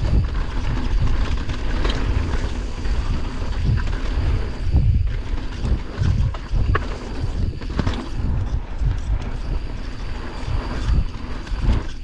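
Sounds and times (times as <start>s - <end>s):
bike knocking and rattling: 0.0s - 12.0s
wind rumbling on microphone: 0.0s - 12.0s.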